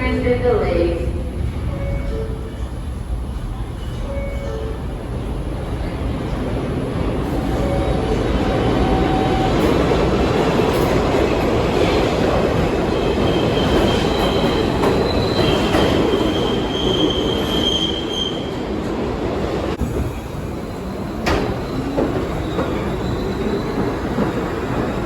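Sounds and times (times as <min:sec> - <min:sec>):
subway train rumbling on rails: 0:00.0 - 0:25.0.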